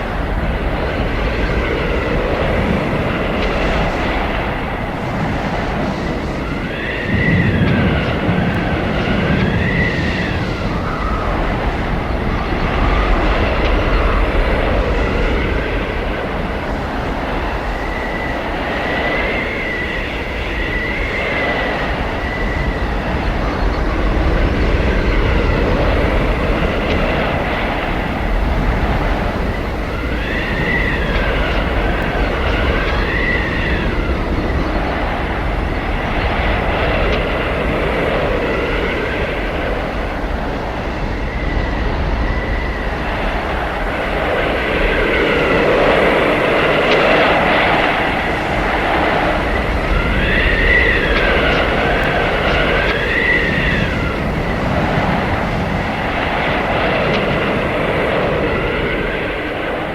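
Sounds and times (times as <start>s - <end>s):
blizzard wind howling: 0.0s - 59.9s.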